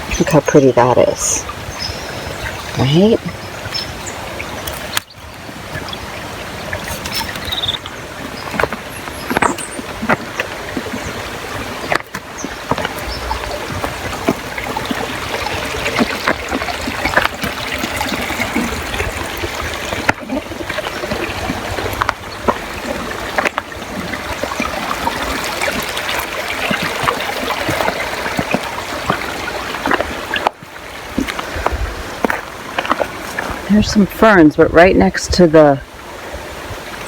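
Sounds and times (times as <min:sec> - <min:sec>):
creek water trickling: 0:00.0 - 0:37.0.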